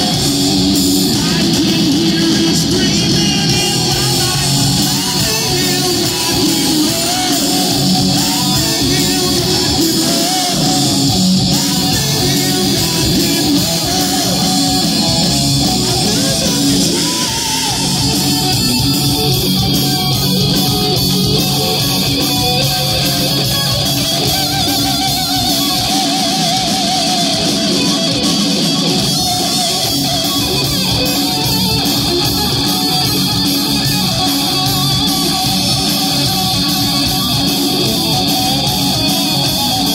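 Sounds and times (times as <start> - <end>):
lead guitar with bent notes: 0.0 - 39.9
live rock band playing: 0.0 - 39.9.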